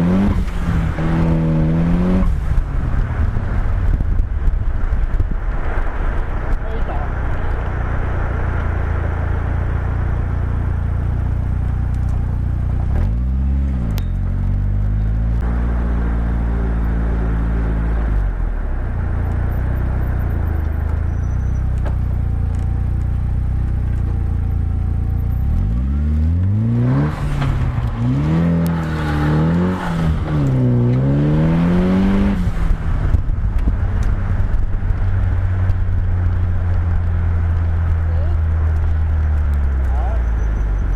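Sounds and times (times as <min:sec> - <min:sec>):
car engine running steadily: 0:00.0 - 0:40.9.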